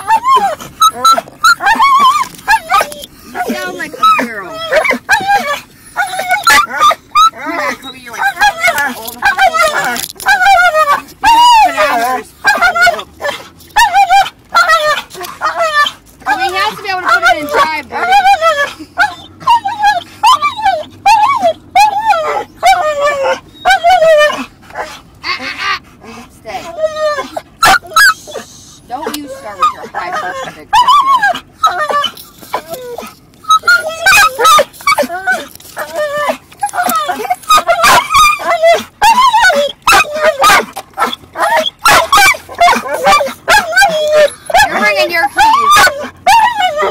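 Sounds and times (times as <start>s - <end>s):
dog whining yowls: 0.0s - 46.9s.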